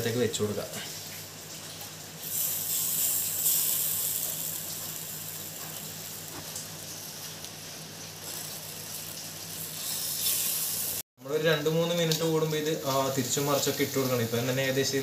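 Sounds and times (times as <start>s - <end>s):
fish sizzling on a grill: 0.0s - 11.0s, 11.6s - 15.0s.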